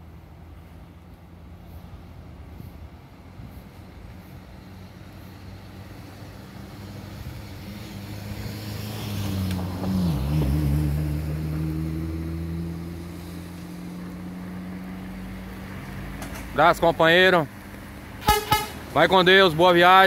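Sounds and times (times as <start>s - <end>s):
coach diesel engine passing: 0.0s - 20.0s.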